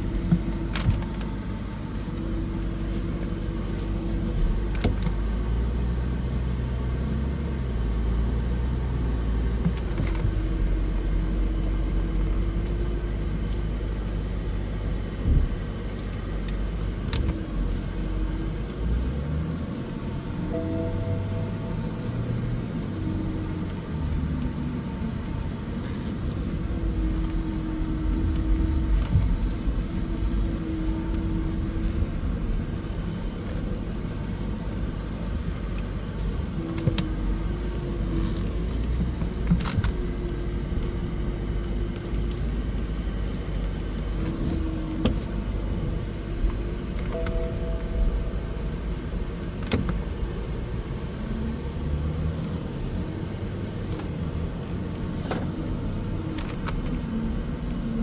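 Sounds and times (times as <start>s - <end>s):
car engine rumble: 0.0s - 58.0s.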